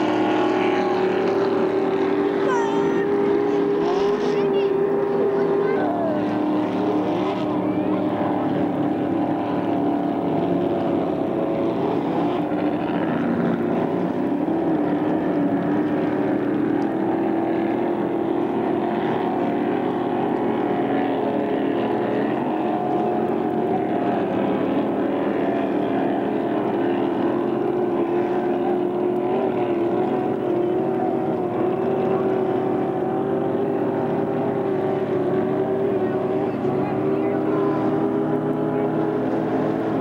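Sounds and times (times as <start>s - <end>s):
speedboat engines droning: 0.0s - 40.0s.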